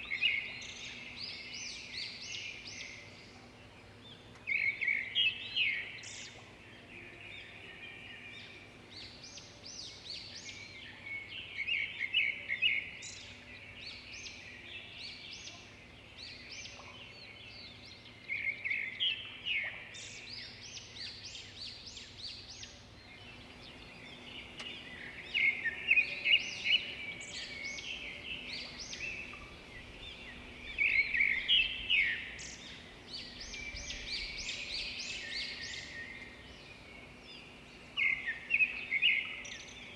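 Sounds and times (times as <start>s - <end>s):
faint steady hum: 0.0s - 39.9s
small birds chirping and singing: 0.0s - 39.9s.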